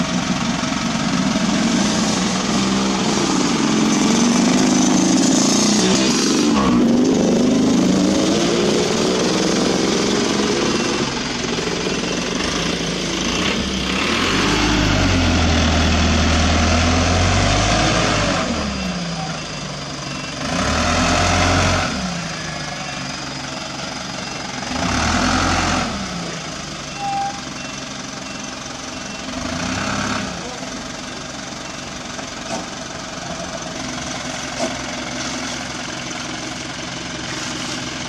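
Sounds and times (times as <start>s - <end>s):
diesel truck engine revving: 0.0s - 38.0s.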